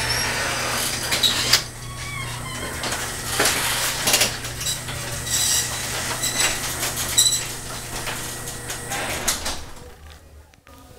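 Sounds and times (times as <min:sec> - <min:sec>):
garage door clinking and rattling: 0:00.0 - 0:10.2
garage door opener motor humming: 0:00.0 - 0:10.2.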